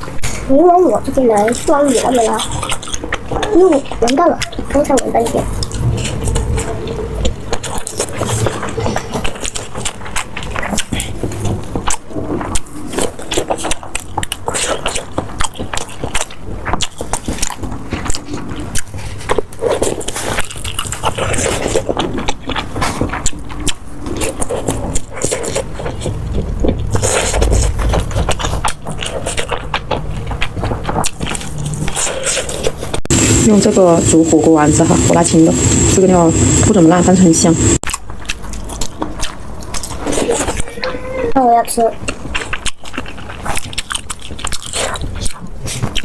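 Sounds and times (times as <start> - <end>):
crisp crunches and clicks: 0.0 - 33.4, 37.8 - 46.0
food being chewed: 0.0 - 36.7, 37.6 - 46.0.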